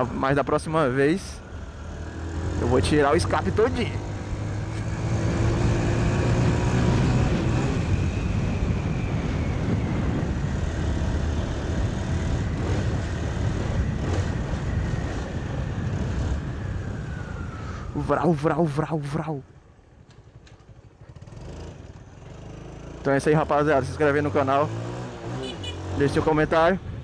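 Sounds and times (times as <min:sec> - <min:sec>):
motorcycle engine drone: 0:00.0 - 0:27.0.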